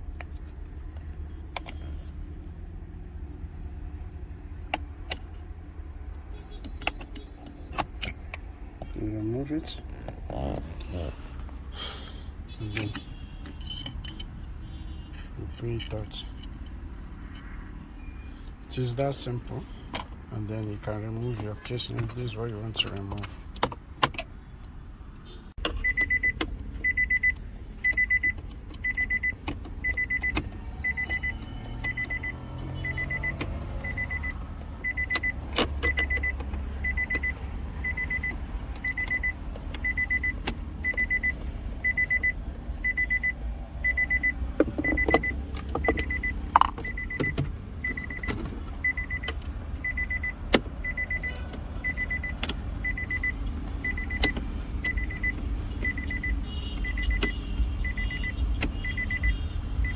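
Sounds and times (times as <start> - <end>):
car warning chime beeping: 8.8 - 19.7, 20.4 - 23.4, 25.2 - 59.9.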